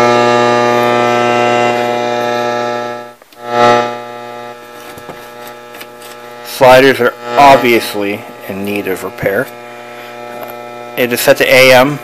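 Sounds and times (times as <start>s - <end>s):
loud electrical buzz: 0.0s - 12.0s.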